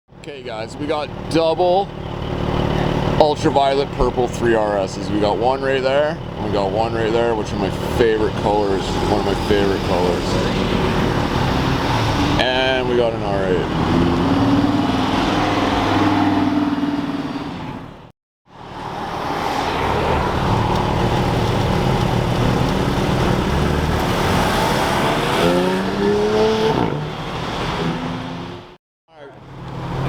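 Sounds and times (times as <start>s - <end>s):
sports car engines driving past: 1.9s - 28.7s.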